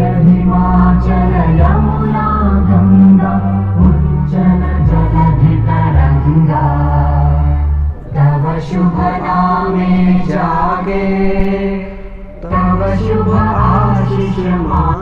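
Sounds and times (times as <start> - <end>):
choir singing slow song: 0.0 - 15.0
low drone: 0.0 - 15.0.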